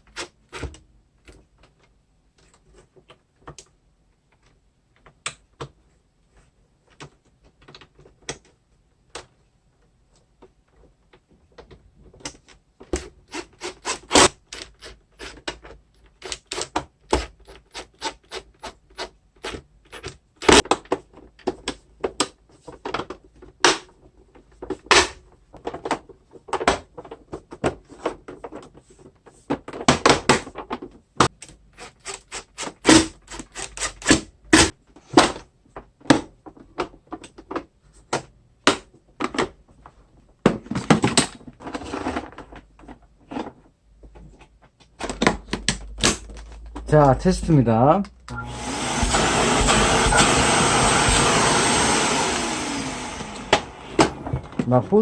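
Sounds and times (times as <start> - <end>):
plastic parts clicking and knocking: 0.0 - 5.9, 6.8 - 46.9.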